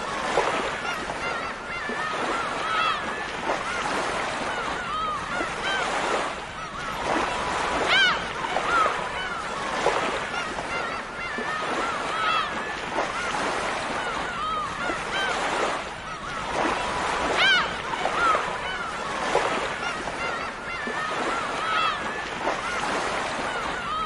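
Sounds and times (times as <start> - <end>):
gulls calling: 0.0 - 24.0
surf washing: 0.0 - 24.0.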